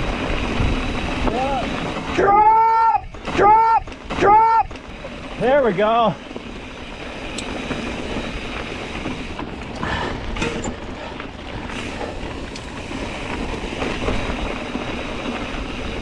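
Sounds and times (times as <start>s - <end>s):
bike clicks and rattles: 0.0s - 16.0s
bike tyre and trail noise: 0.0s - 16.0s
wind rumbling on microphone: 0.0s - 16.0s.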